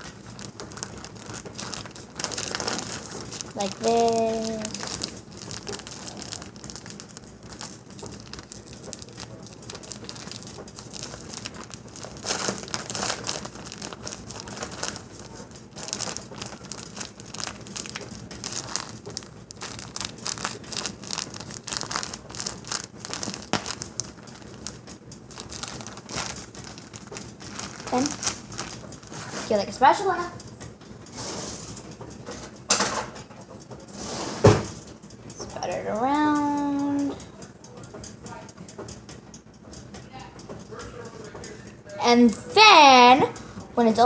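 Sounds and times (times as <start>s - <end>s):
packaging crinkling and rustling: 0.0s - 37.2s.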